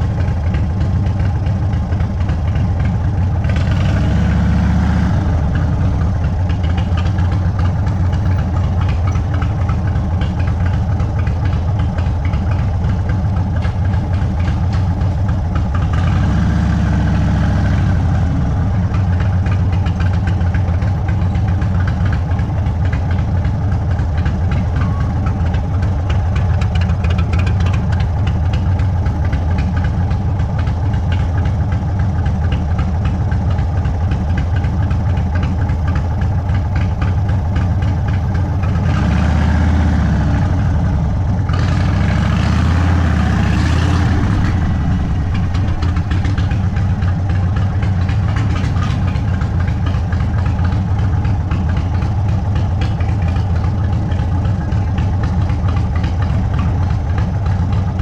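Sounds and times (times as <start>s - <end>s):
motorcycle exhaust note: 0.0s - 58.0s.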